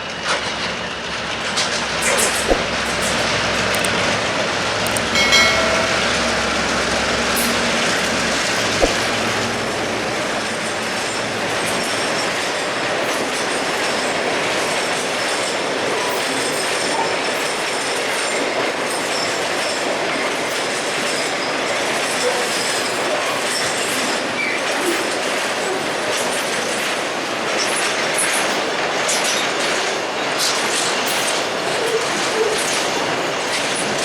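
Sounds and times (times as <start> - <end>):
train wheels clattering on track: 0.0 - 34.0.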